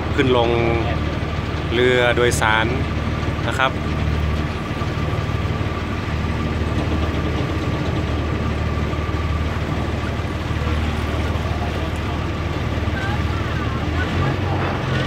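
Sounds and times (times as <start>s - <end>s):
boat engine droning: 0.0s - 15.0s
thin steady whine: 0.0s - 15.0s
water and wind hissing: 0.0s - 15.0s.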